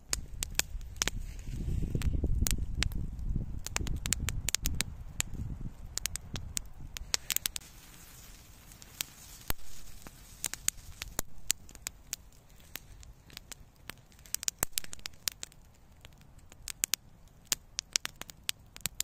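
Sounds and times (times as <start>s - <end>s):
fire pops and snaps: 0.0s - 19.0s
wood fire crackling: 0.0s - 19.0s.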